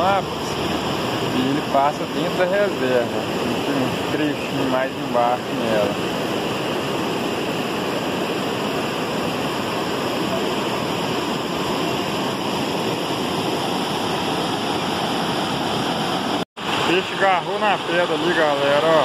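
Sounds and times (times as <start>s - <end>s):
river water over rapids: 0.0s - 19.0s.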